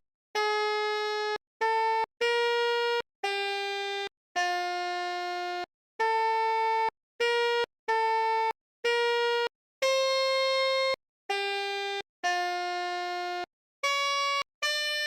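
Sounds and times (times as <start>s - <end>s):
melodica playing held notes: 0.4s - 15.0s.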